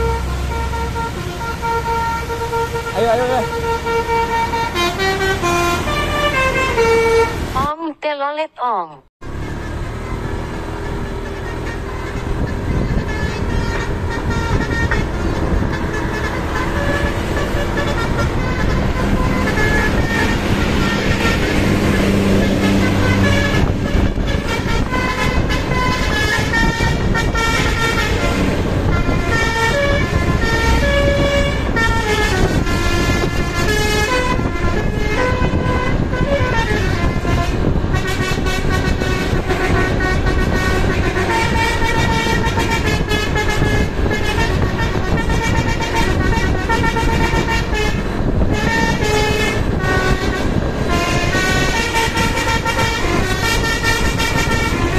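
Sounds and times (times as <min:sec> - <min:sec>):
bus air horn playing a tune: 0:00.0 - 0:07.6, 0:10.7 - 0:54.9
bus engine running: 0:00.0 - 0:54.9.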